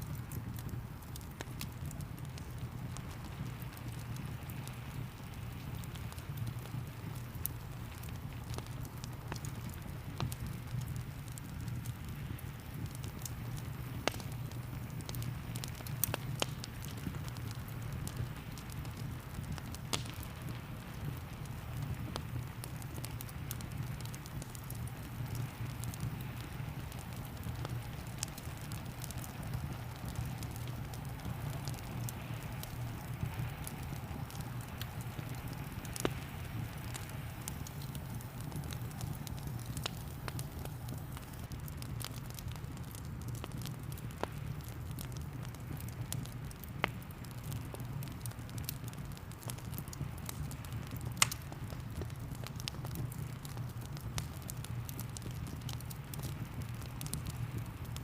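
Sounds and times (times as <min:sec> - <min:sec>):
constant low rumble: 0:00.0 - 0:58.0
fire crackling and popping: 0:00.0 - 0:58.0
rain pattering: 0:00.0 - 0:58.0.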